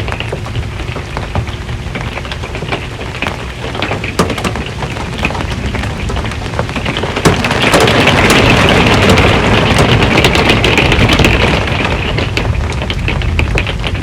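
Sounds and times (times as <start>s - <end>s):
rain on a metal roof: 0.0s - 14.0s
thunder rumble: 0.0s - 14.0s.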